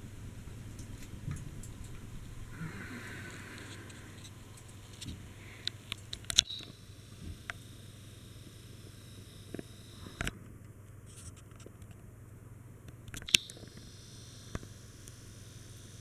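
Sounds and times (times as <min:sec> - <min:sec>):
ceiling fan humming: 0:00.0 - 0:16.0.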